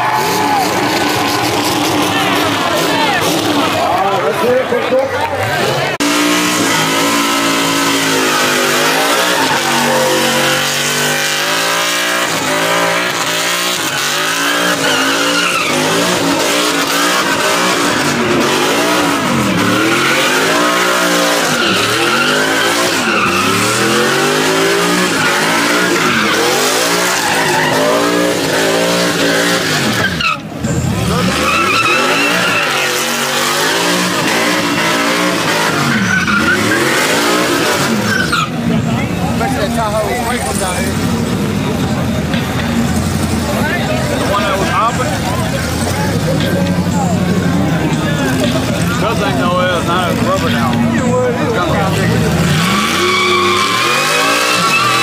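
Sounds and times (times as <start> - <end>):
tires squealing: 0.0 - 55.0
truck engine revving: 0.0 - 55.0.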